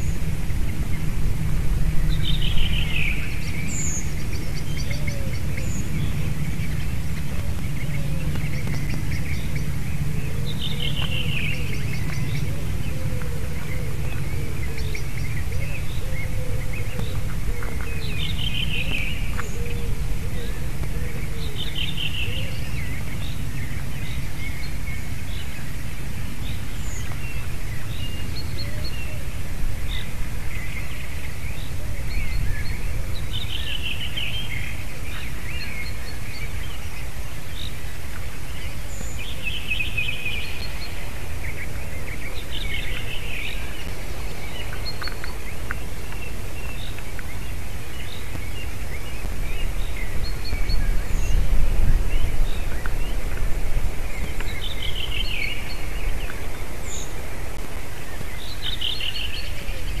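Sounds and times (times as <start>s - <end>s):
low outdoor rumble: 0.0s - 60.0s.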